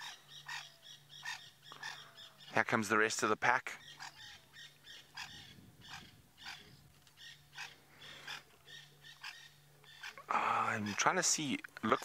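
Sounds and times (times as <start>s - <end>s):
wild dogs twittering: 0.0s - 2.6s, 3.8s - 11.2s.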